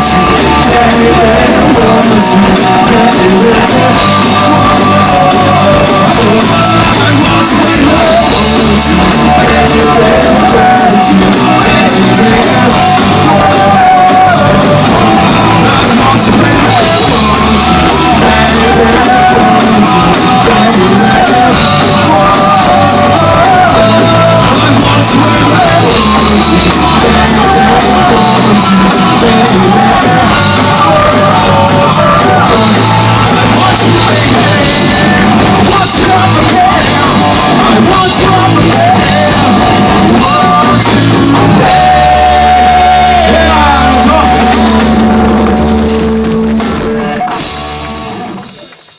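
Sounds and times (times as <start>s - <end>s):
person singing: 0.0s - 48.7s
live rock band playing: 0.0s - 48.9s.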